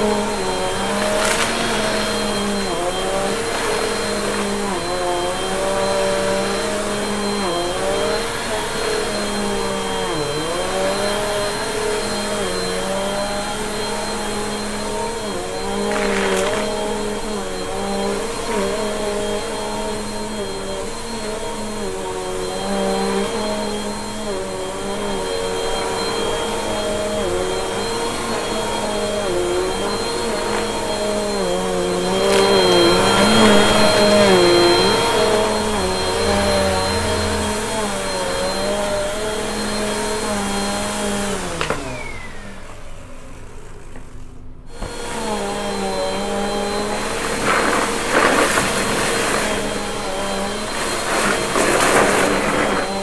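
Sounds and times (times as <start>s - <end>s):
vacuum cleaner on carpet: 0.0s - 53.0s
vacuum motor winding down: 0.0s - 53.0s.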